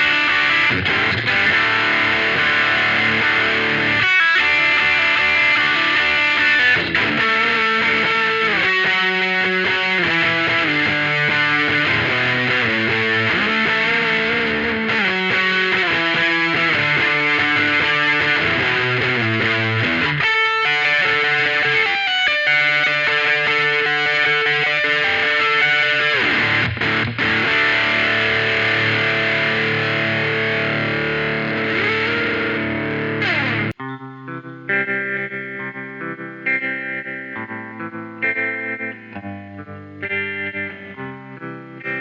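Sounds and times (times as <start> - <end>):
clean guitar: 0.0 - 42.0
distorted electric guitar: 0.0 - 42.0.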